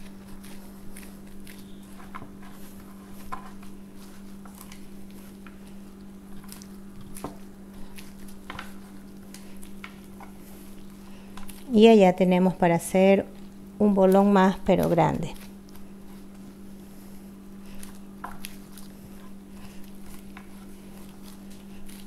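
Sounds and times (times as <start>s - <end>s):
gloved hands squishing dough: 0.0s - 22.0s
steady low hum: 0.0s - 22.0s.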